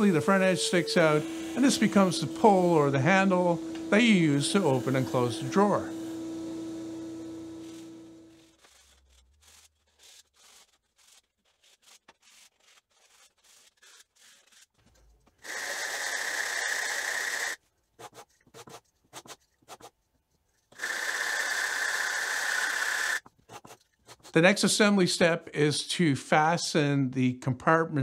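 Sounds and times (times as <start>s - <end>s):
wood rubbing on sandpaper: 0.0s - 6.1s, 7.4s - 24.4s.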